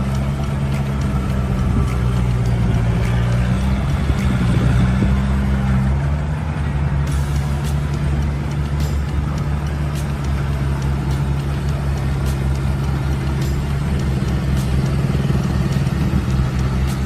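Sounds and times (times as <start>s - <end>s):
diesel engine running: 0.0s - 17.0s
harvester machinery clattering: 0.0s - 17.0s.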